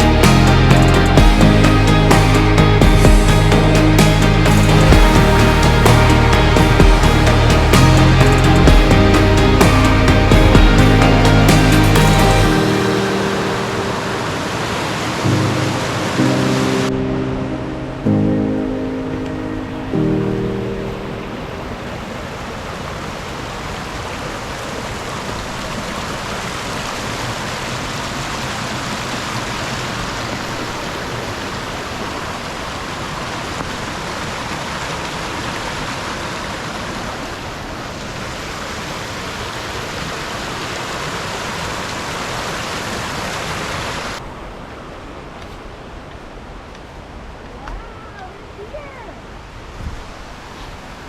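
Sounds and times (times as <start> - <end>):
stream running water: 0.0 - 51.0.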